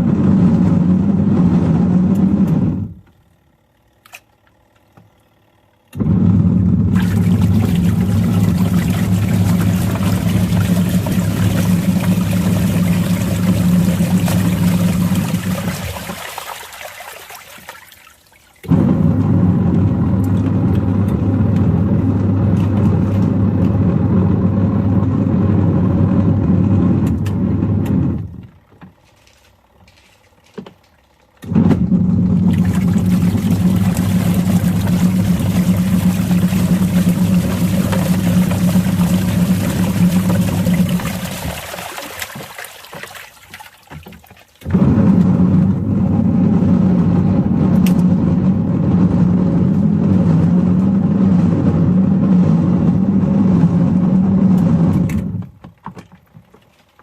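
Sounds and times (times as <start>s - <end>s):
washing machine motor humming: 0.0s - 57.0s.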